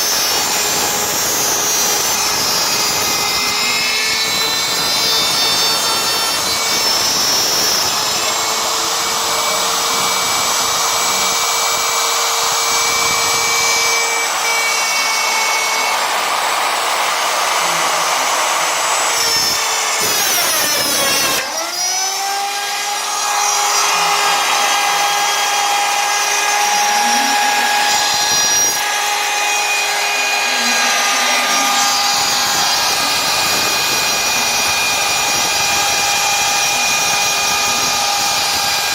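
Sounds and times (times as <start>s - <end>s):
machine motor whine: 0.0s - 38.9s
rough cutting noise: 0.0s - 38.9s.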